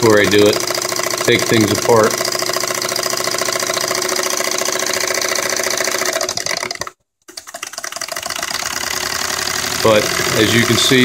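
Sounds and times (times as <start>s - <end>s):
toy steam engine chuffing: 0.0s - 11.0s.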